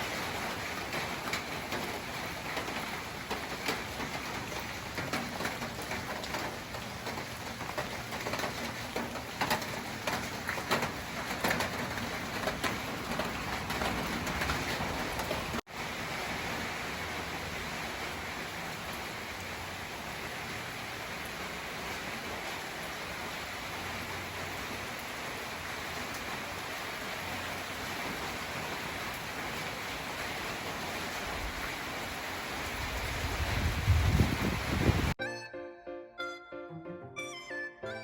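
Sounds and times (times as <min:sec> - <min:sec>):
rain hissing: 0:00.0 - 0:35.2.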